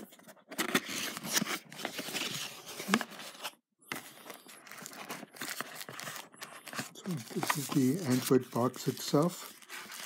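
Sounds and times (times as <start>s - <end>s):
cardboard and plastic bag rustling: 0.0s - 10.0s.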